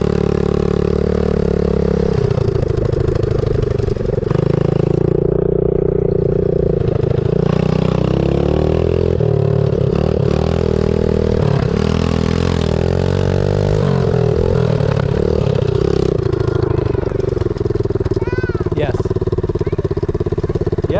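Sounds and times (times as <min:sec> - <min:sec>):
pit bike engine revving: 0:00.0 - 0:20.9.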